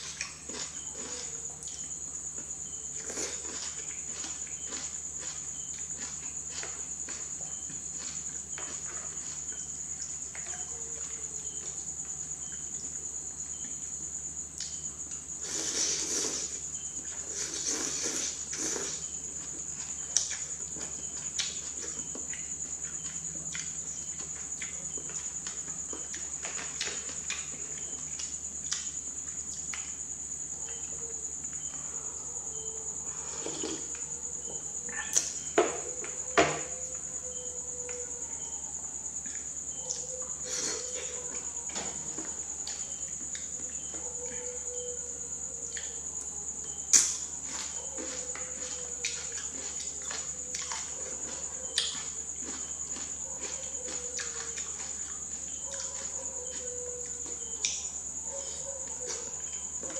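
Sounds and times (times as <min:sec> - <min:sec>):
soft chewing: 0:00.0 - 0:35.5, 0:37.8 - 0:59.9
cricket trill: 0:00.0 - 0:59.9.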